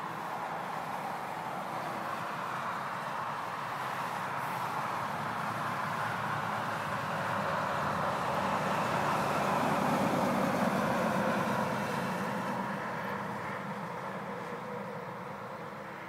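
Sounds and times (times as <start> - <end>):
traffic road rumble: 0.0 - 16.0.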